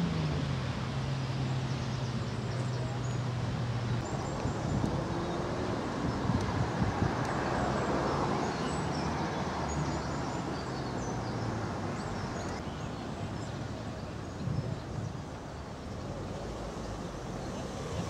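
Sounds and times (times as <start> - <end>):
distant road traffic rumble: 0.0 - 18.0
small birds chirping: 0.9 - 18.0.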